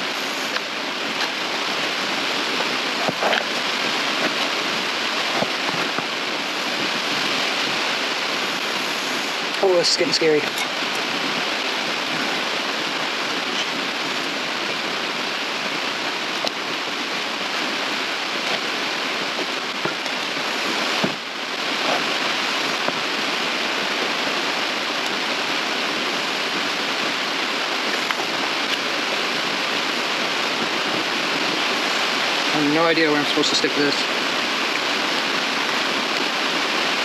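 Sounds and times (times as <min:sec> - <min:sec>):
rain hissing: 0:00.0 - 0:37.0.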